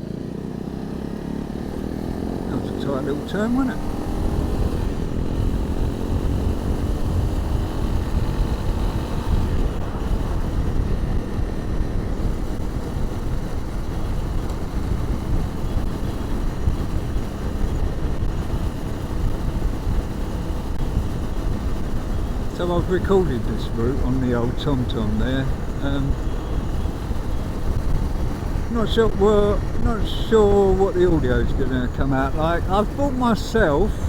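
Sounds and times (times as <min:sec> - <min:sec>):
wind buffeting: 0:03.7 - 0:34.0.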